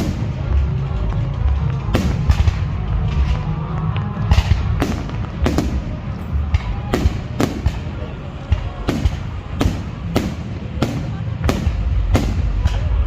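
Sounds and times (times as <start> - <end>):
fireworks bangs with crackling: 0.0 - 13.0
steady low rumble: 0.0 - 13.0.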